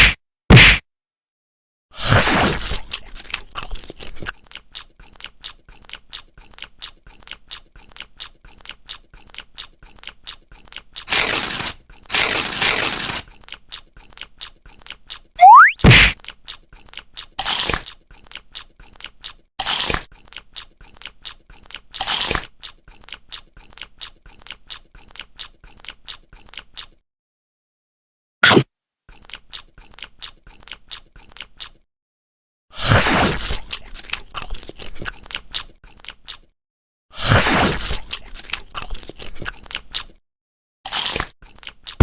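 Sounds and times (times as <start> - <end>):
crunchy food being chewed: 2.0 - 15.4, 16.1 - 27.0, 29.1 - 31.9, 32.8 - 36.6, 37.2 - 40.2, 40.9 - 42.0.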